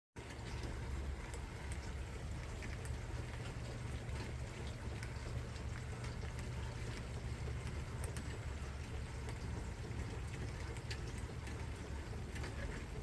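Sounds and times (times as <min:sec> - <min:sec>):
light rain falling: 0:00.2 - 0:13.0
raindrops ticking: 0:00.2 - 0:13.0.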